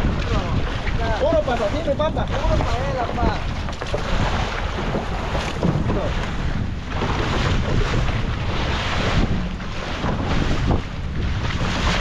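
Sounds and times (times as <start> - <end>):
sea water and waves rushing: 0.0 - 12.0
wind buffeting microphone: 0.0 - 12.0.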